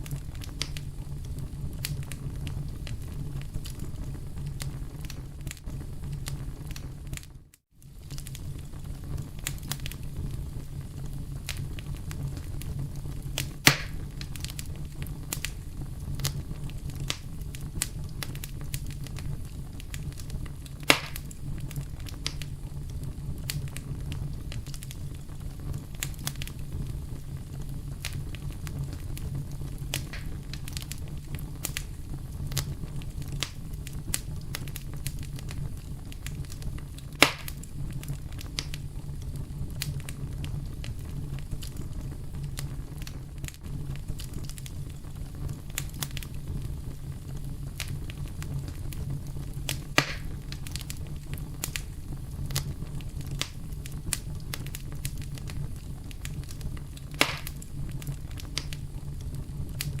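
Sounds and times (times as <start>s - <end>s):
campfire crackling: 0.0s - 60.0s
fire pops: 0.0s - 60.0s.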